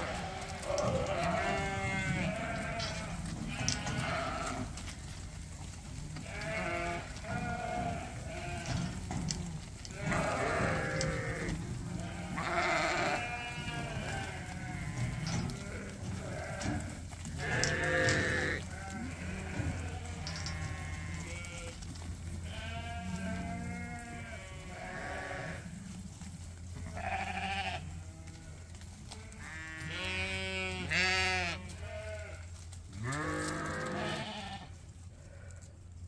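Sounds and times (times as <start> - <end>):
sheep bleating: 0.0 - 4.8, 6.2 - 9.0, 9.9 - 21.8, 22.4 - 25.7, 26.8 - 35.7.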